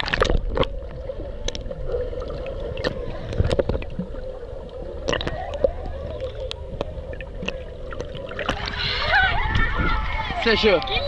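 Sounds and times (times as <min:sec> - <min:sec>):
underwater clicks: 0:00.0 - 0:09.0
bubbling water: 0:00.0 - 0:10.6
underwater hum: 0:00.0 - 0:11.0.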